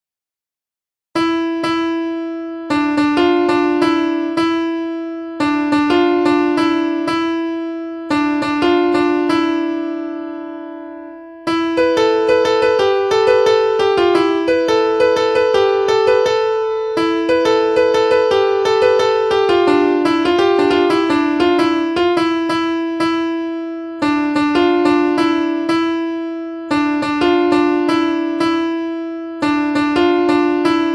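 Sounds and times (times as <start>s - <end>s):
piano ringtone melody: 1.2s - 30.9s.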